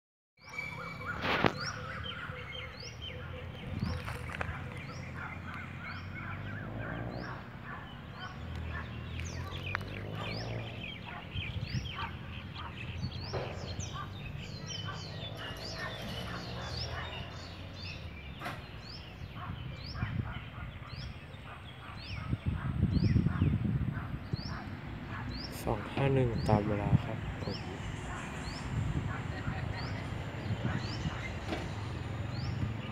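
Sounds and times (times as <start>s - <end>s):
birds chirping: 0.4s - 32.9s.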